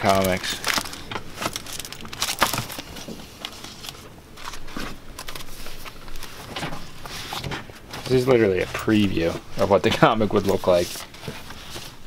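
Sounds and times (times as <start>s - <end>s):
papers rustling and crinkling: 0.0s - 12.0s.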